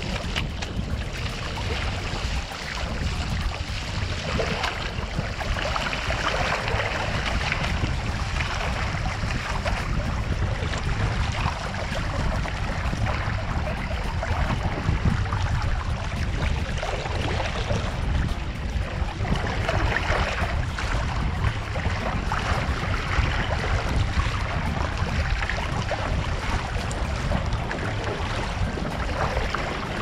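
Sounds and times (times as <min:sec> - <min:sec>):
paddle blades dipping: 0:00.0 - 0:30.0
water splashing along kayak hull: 0:00.0 - 0:30.0
wind rumble on microphone: 0:00.0 - 0:30.0.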